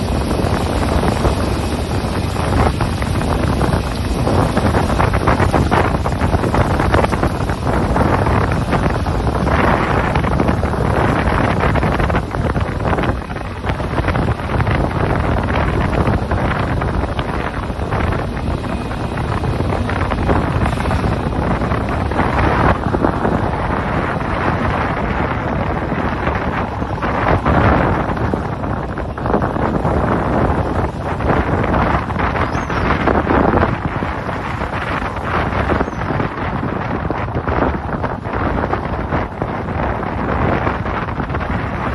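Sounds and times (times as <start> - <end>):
water rushing along boat hull: 0.0 - 41.9
wind buffeting microphone: 0.0 - 41.9.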